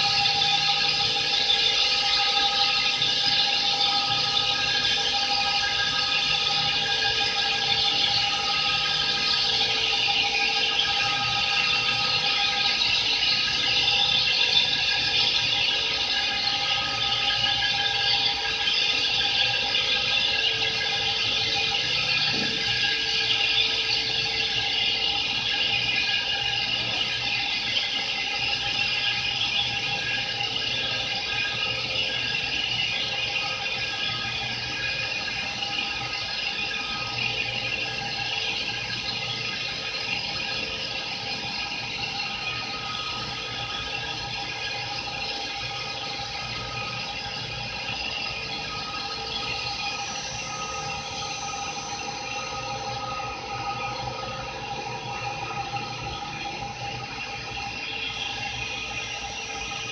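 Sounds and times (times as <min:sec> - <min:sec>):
lathe cutting whine and hiss: 0:00.0 - 0:59.9.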